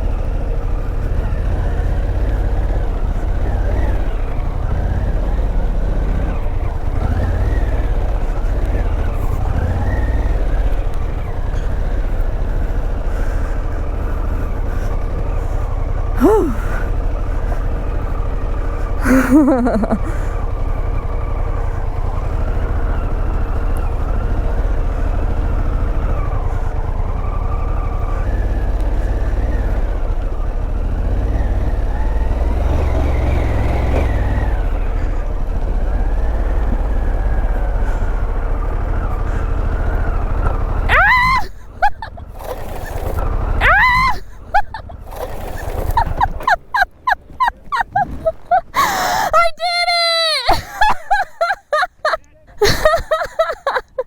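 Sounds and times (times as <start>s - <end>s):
motorcycle engine revving: 0.0s - 48.8s.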